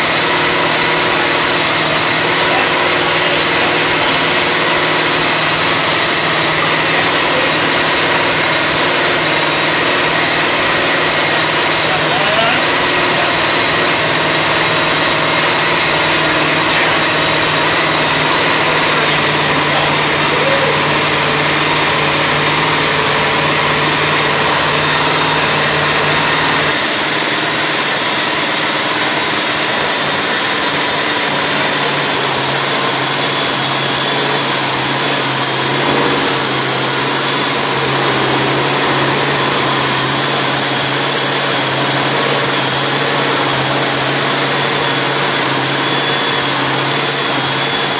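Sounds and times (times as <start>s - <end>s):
engine running steadily: 0.0s - 47.9s.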